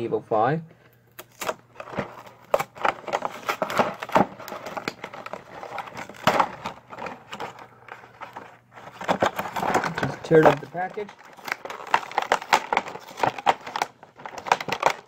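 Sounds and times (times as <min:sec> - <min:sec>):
packaging crinkling: 0:01.1 - 0:15.0.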